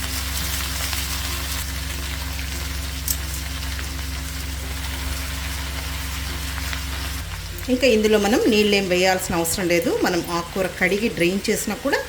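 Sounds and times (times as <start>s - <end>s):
vegetables sizzling in hot oil: 0.0s - 12.0s
steady low hum: 1.6s - 12.0s.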